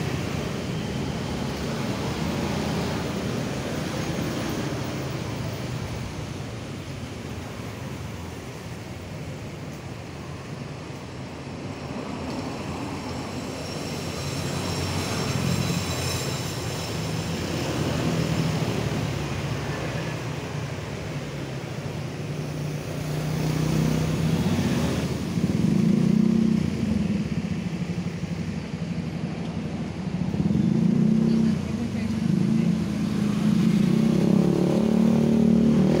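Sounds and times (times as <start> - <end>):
vehicle engines passing: 0.0 - 36.0.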